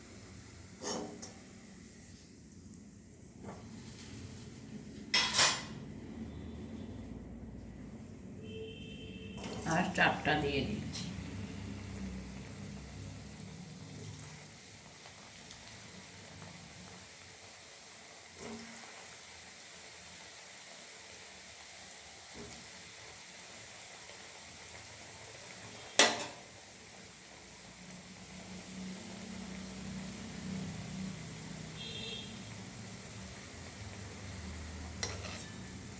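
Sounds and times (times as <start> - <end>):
faint sizzling on stove: 0.0 - 35.9.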